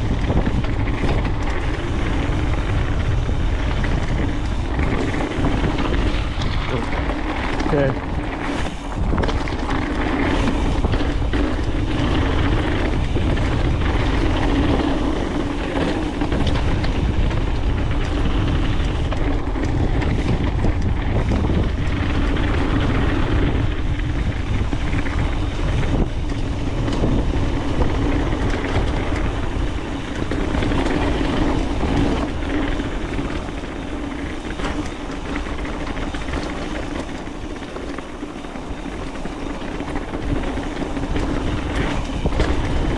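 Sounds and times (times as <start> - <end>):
bike knocking and rattling: 0.0 - 42.9
tyres rumbling on dirt: 0.0 - 42.9
wind on microphone: 0.0 - 42.9.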